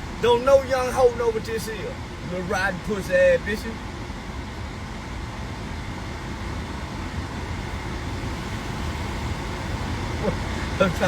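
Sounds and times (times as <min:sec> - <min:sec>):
low rumble with hiss: 0:00.0 - 0:11.0.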